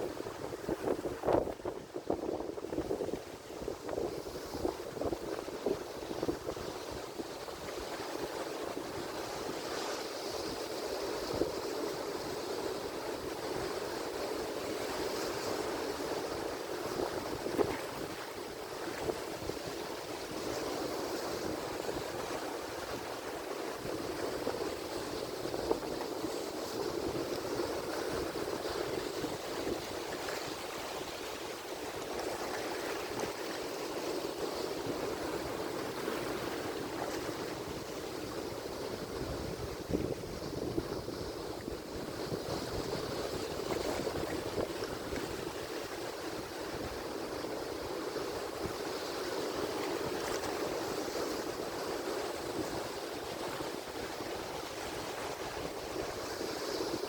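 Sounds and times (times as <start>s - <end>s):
ocean surf washing ashore: 0.0s - 57.0s.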